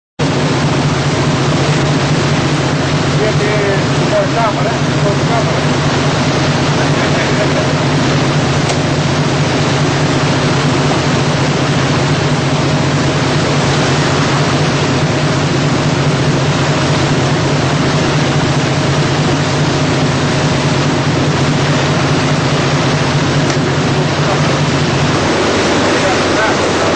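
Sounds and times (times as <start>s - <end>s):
boat engine hum: 0.2s - 26.9s
faint whine: 0.2s - 26.9s
rushing water noise: 0.2s - 26.9s.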